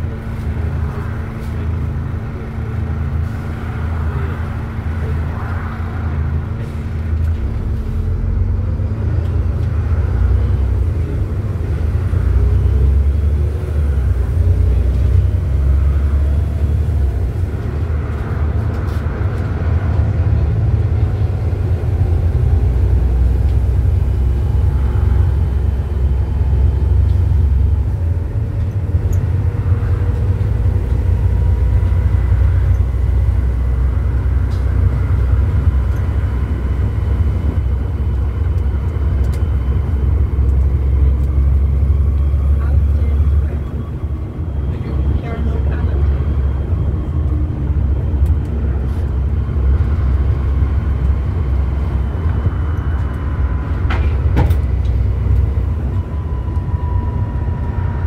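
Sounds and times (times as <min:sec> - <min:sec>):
bus diesel engine rumble: 0:00.0 - 0:58.0
faint rising whines: 0:09.7 - 0:58.0.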